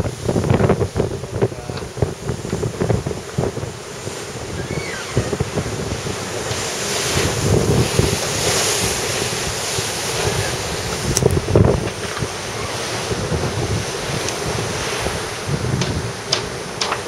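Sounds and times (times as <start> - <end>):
sea water rushing: 0.0 - 17.0
wind buffeting microphone: 0.0 - 17.0.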